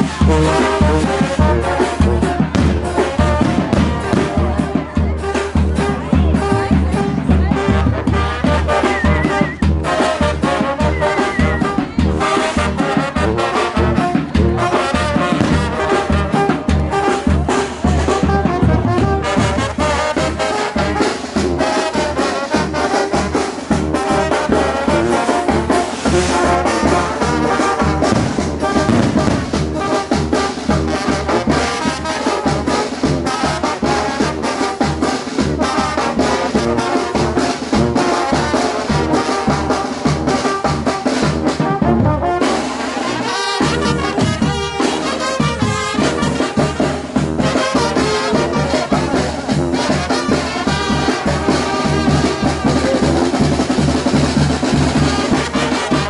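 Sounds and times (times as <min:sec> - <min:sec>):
brass band playing dance music: 0:00.0 - 0:56.0.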